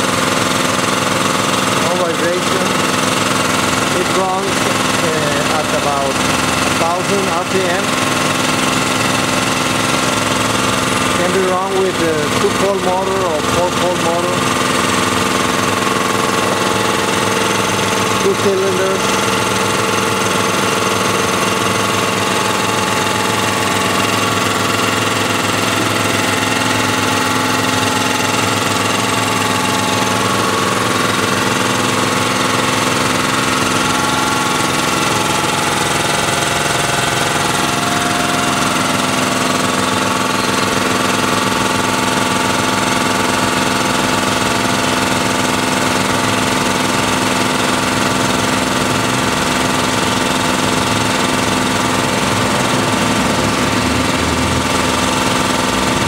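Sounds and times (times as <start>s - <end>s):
air compressor pump running: 0.0s - 56.0s.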